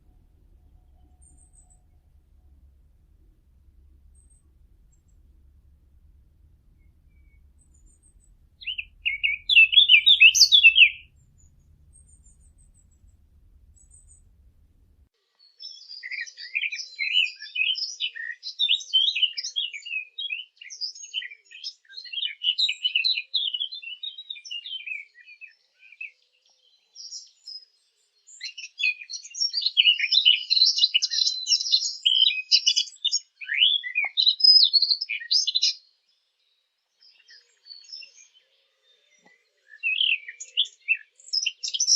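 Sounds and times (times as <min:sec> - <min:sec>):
bird warbling song: 0:00.0 - 0:26.2, 0:27.0 - 0:35.8, 0:36.4 - 0:41.9.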